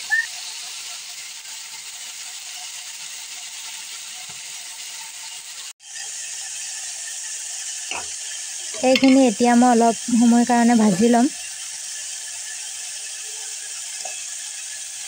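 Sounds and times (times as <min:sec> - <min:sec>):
pan hissing and crackling: 0:00.0 - 0:15.0.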